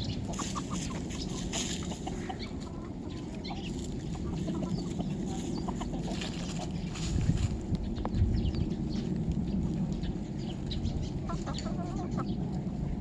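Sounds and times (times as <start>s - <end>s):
chickens clucking: 0.0s - 13.0s
steady low rumble: 0.0s - 13.0s.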